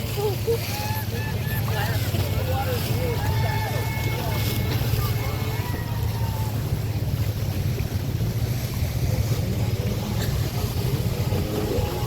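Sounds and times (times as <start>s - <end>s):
motorboat engines rumbling: 0.0s - 12.0s.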